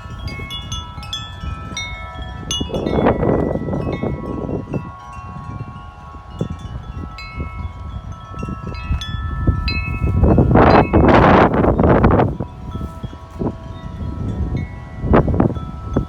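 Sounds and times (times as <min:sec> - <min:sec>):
wind chimes ringing: 0:00.0 - 0:16.0
wind gust on microphone: 0:00.0 - 0:16.0.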